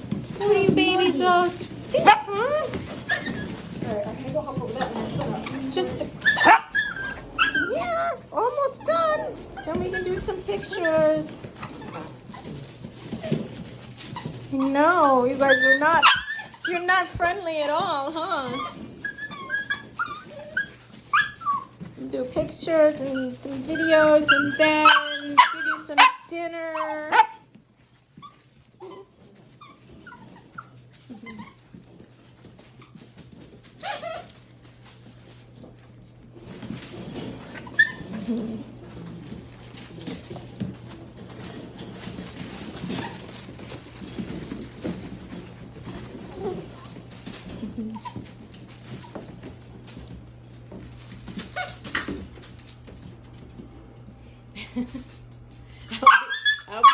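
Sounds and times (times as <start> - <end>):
puppies whimpering and squeaking: 0.0 - 56.9.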